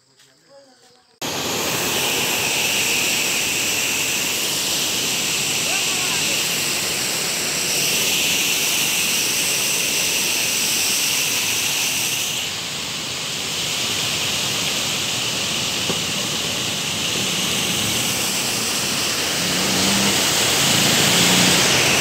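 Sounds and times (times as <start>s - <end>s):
stream rushing over rocks: 1.2s - 10.6s, 12.5s - 22.0s.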